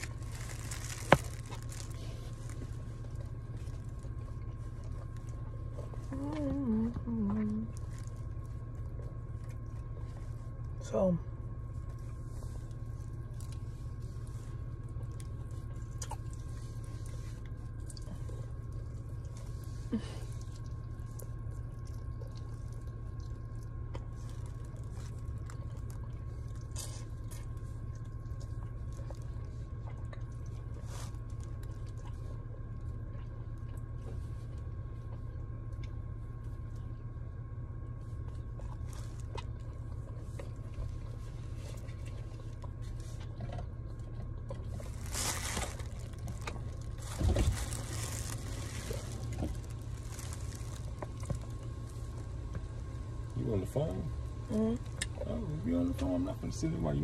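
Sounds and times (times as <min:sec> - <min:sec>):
person chewing and smacking: 0:00.0 - 0:06.1, 0:11.8 - 0:37.0, 0:38.2 - 0:53.3
low hum inside car: 0:00.0 - 0:57.0.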